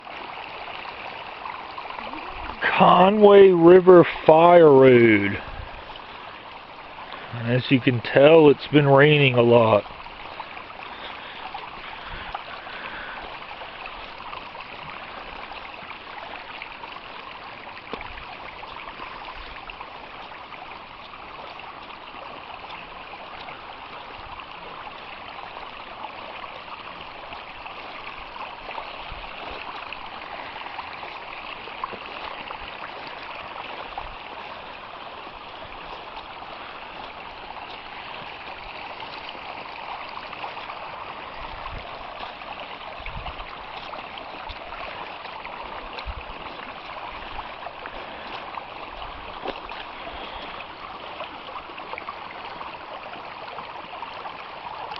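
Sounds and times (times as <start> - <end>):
stream rushing: 0.0 - 54.9.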